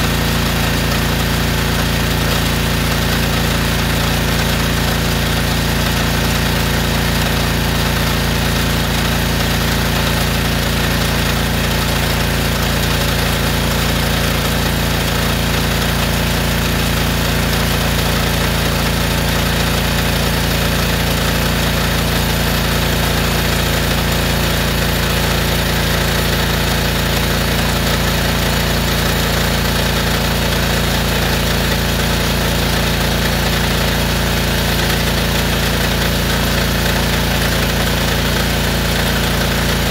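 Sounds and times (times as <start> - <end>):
pressure washer engine hum: 0.0 - 39.9.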